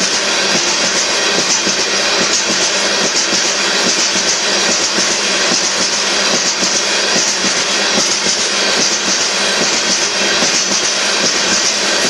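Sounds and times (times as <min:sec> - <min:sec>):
steel wheels on rails: 0:00.0 - 0:12.0.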